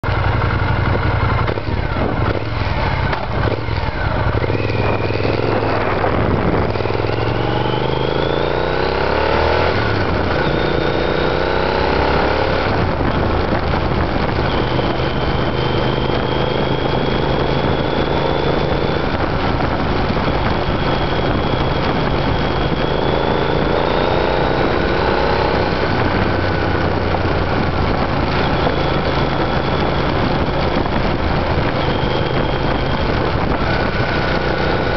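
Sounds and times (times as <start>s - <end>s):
motorcycle engine revving: 0.0s - 34.9s
wind rush: 0.8s - 34.9s.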